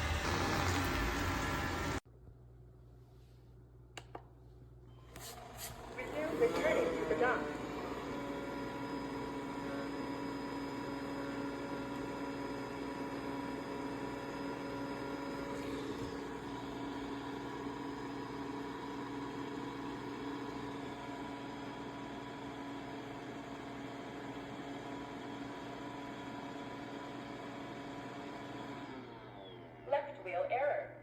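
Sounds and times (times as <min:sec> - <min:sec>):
robot vacuum whirring hum: 0:05.0 - 0:30.1.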